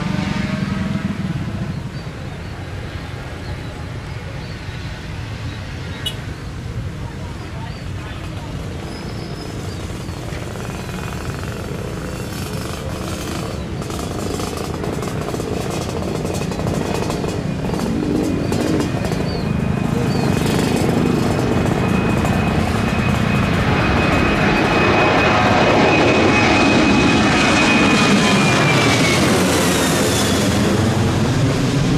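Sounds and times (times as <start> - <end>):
jet engines whining: 0.0 - 31.9.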